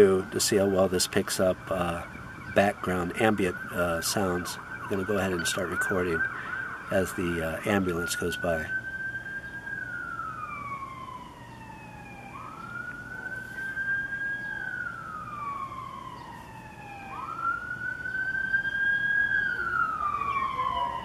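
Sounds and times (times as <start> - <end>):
ambulance siren wailing: 0.0 - 21.0.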